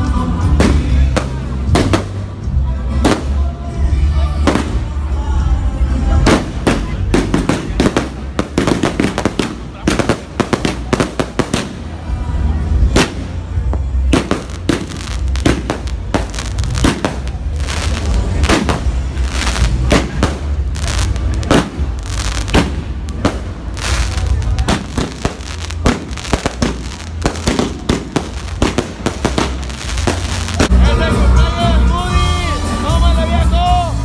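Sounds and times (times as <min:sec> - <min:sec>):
fireworks bangs and crackles: 0:00.4 - 0:30.8.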